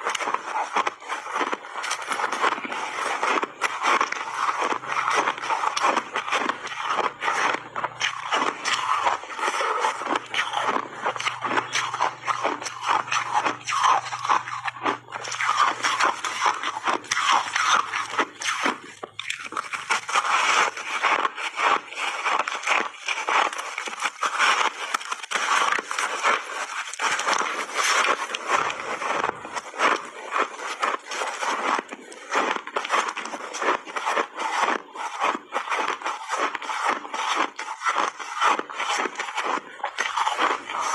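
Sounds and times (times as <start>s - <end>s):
ice and berries crunching: 0.0s - 40.9s.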